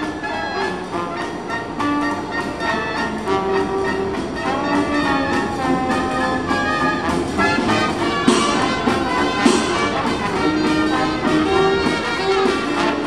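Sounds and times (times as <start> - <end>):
brass band playing: 0.0 - 13.0
sharp drum beats: 1.8 - 13.0.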